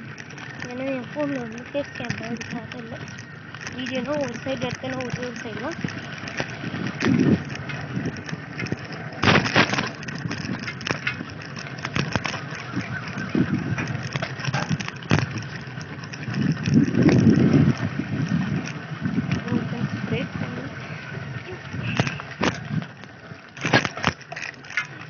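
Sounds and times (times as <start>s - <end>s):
sharp rattling clicks: 0.0s - 20.9s, 21.6s - 25.0s
bicycle tyres rumbling on dirt: 0.0s - 25.0s.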